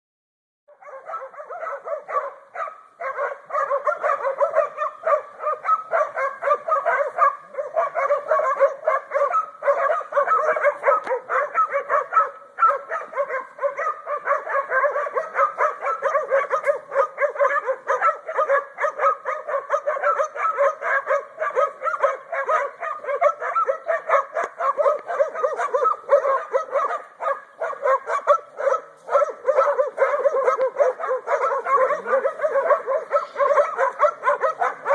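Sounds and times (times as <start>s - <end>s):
dogs barking and yipping: 0.7s - 34.9s.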